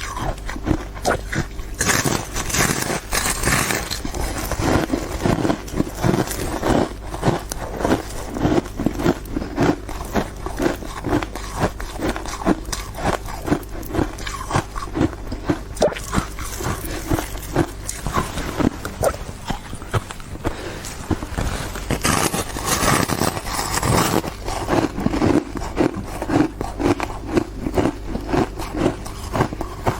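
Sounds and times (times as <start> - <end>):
person chewing ice: 0.0 - 29.9.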